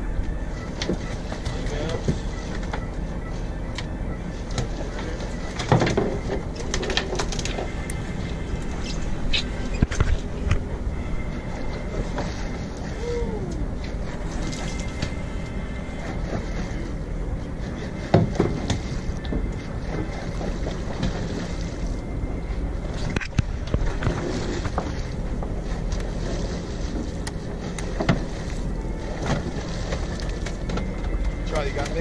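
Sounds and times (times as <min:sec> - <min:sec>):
boat engine low rumble: 0:00.0 - 0:32.0.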